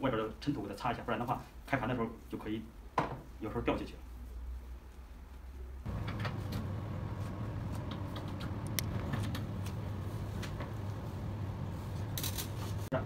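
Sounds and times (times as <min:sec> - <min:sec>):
fan-like hum: 0:00.0 - 0:13.0.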